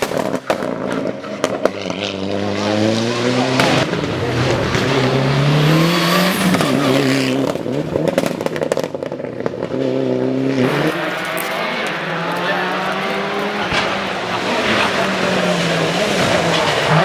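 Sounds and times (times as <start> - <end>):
exhaust pops and crackles: 0.0 - 2.3, 3.2 - 17.0
race car engine accelerating: 1.1 - 17.0.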